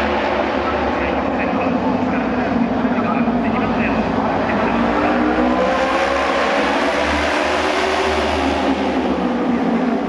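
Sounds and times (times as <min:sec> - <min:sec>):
racing motorcycle engines: 0:00.0 - 0:10.0.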